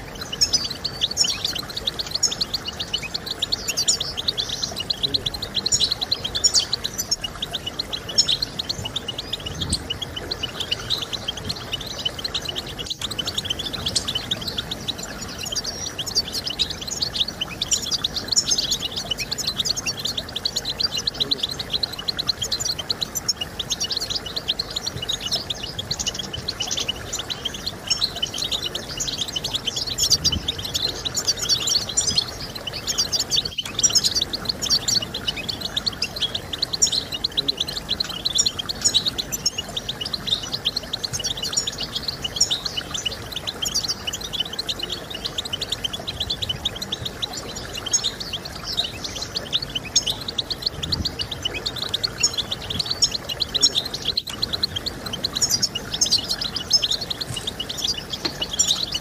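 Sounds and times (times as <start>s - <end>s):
bird twittering and trilling: 0.0s - 59.0s.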